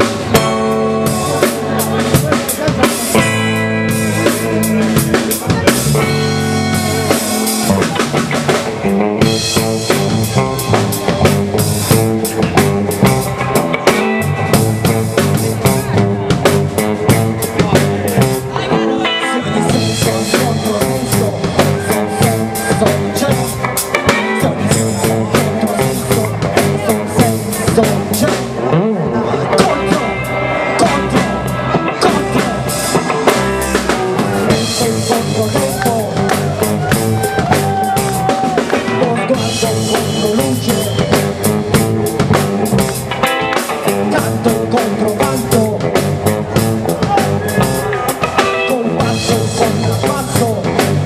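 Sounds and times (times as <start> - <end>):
drum kit beat: 0.0 - 51.0
live band playing: 0.0 - 51.0.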